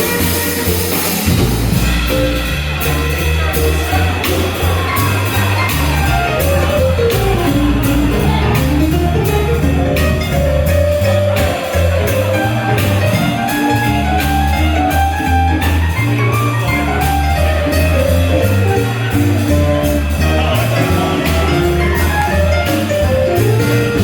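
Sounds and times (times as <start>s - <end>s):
drums keeping steady beat: 0.0s - 24.0s
stepping bass line: 0.0s - 24.0s
swing jazz band playing: 0.0s - 24.0s.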